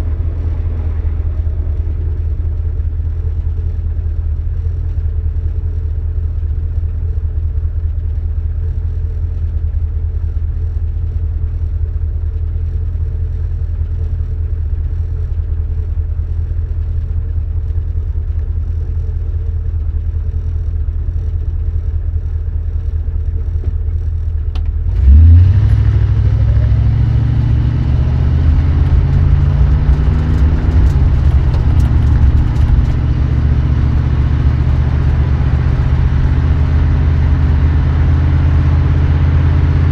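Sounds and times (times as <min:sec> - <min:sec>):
car engine droning and revving: 0:00.0 - 0:39.9.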